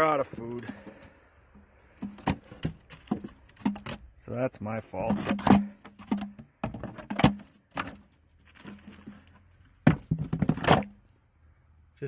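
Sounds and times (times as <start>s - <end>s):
wooden boxes knocking and scraping: 0.0s - 4.1s, 5.0s - 11.0s.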